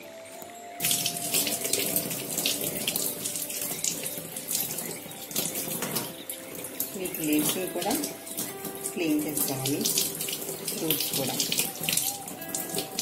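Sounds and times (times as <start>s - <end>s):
tap water running into sink: 0.8s - 13.0s.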